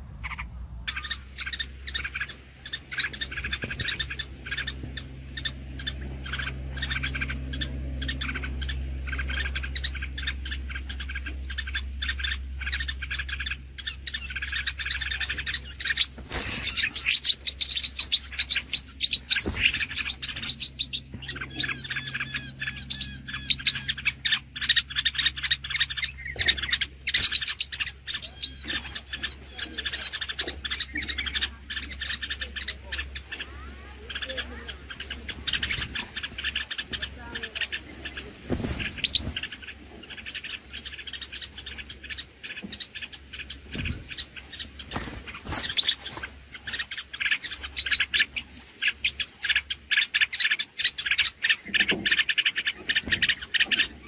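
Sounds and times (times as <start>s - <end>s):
small birds chirping rapidly: 0.0s - 54.0s
steady low hum: 0.0s - 54.0s.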